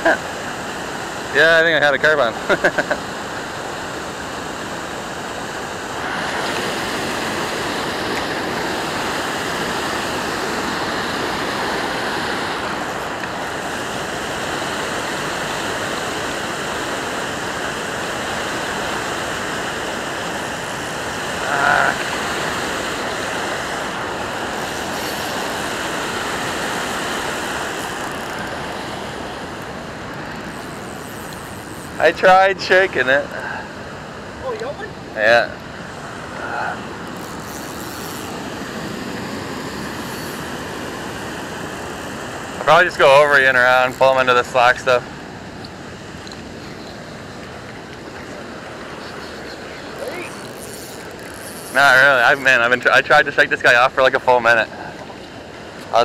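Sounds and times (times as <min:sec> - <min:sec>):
water roaring over a dam: 0:00.0 - 0:56.0.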